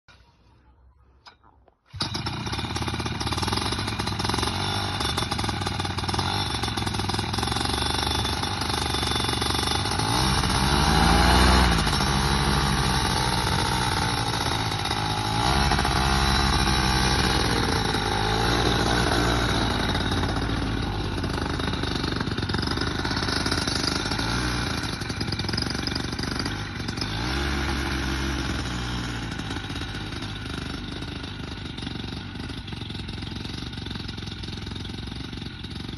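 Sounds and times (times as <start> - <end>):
microlight engine and propeller: 1.9 - 35.9.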